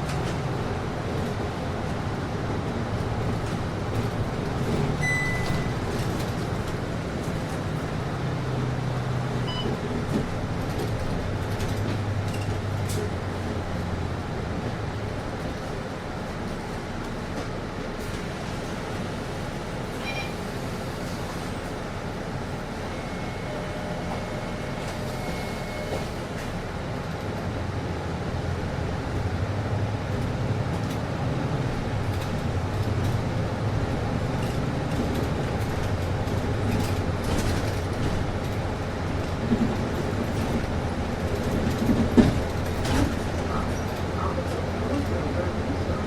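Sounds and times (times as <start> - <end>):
bus engine rumble: 0.0 - 46.0.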